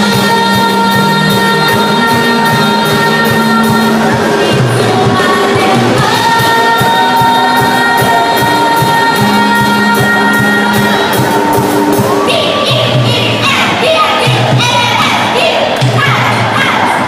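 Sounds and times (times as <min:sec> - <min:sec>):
electric guitars: 0:00.0 - 0:14.6
bass guitar: 0:00.0 - 0:16.6
drums with steady cymbal beat: 0:00.0 - 0:17.0
woman singing: 0:00.0 - 0:17.0.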